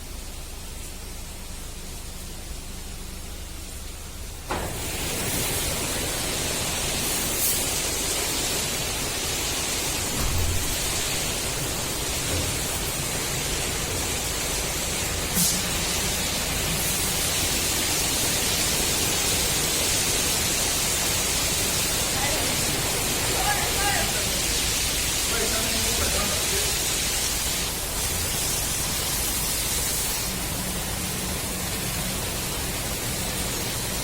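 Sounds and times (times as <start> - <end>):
car wash machine hissing: 0.0 - 34.0.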